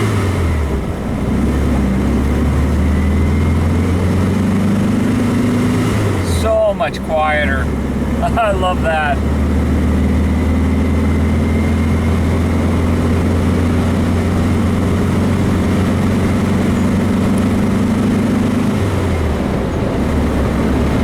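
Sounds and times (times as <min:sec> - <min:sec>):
car engine running from cabin: 0:00.0 - 0:21.0.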